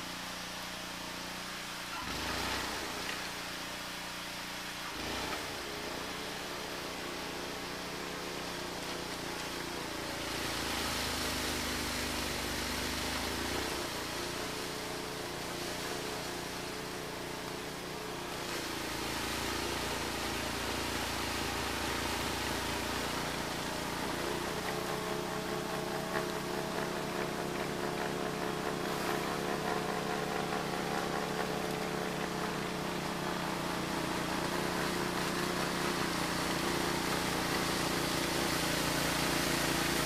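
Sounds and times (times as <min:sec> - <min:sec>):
snow blower engine running: 0:00.0 - 0:40.0.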